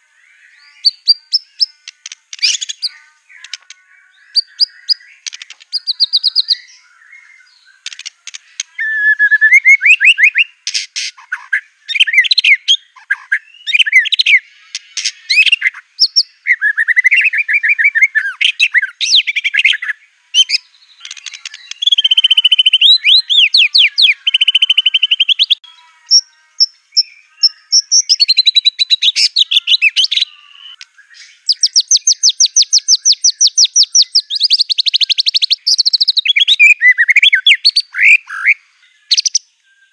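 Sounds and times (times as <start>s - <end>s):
bird singing varied phrases: 0.0s - 39.9s.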